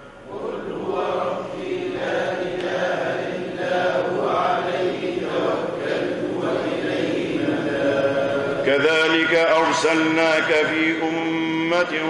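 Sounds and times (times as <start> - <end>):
group of voices chanting: 0.3 - 12.0.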